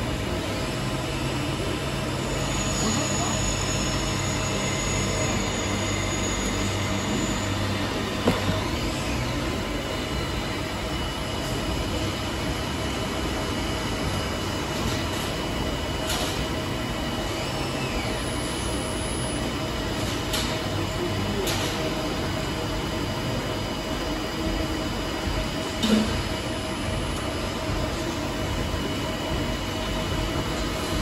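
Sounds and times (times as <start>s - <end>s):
lathe humming with high whine: 0.0s - 31.0s.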